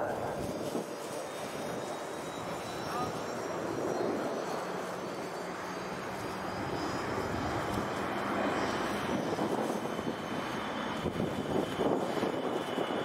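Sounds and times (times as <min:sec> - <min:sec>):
jet roar of plane overhead: 0:00.0 - 0:13.0.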